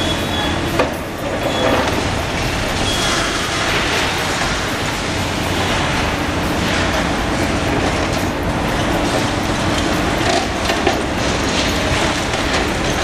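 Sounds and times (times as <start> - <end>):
excavator engine and hydraulics: 0.0 - 13.0.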